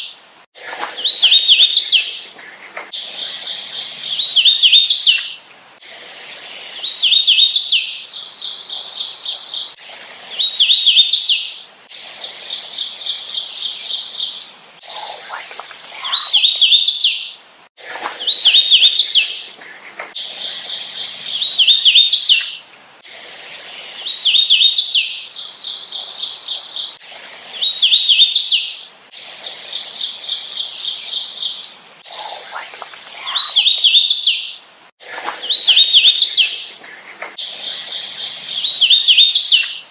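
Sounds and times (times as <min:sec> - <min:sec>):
warbler singing: 0:00.0 - 0:05.5, 0:06.2 - 0:17.4, 0:18.0 - 0:22.7, 0:23.6 - 0:39.9.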